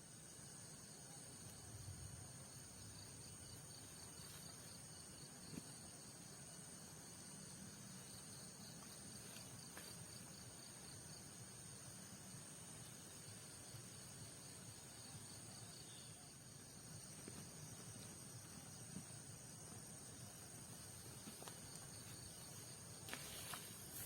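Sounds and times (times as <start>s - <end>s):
insects high-pitched buzz: 0.0s - 24.0s.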